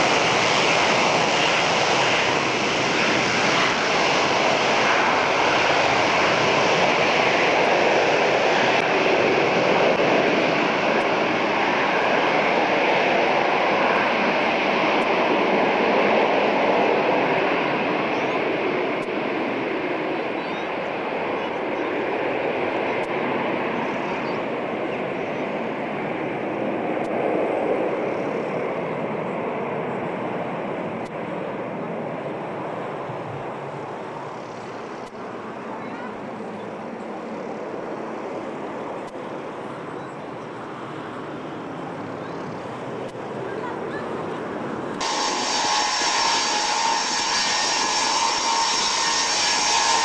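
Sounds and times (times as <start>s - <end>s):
jet engines in reverse thrust: 0.0s - 50.0s.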